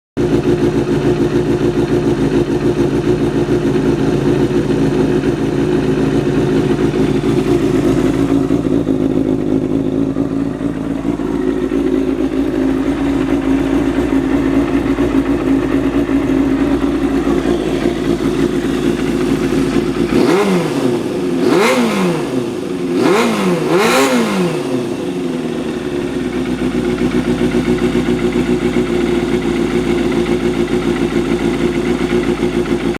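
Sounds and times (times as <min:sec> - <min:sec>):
motorcycle engine idling and revving: 0:00.1 - 0:32.9.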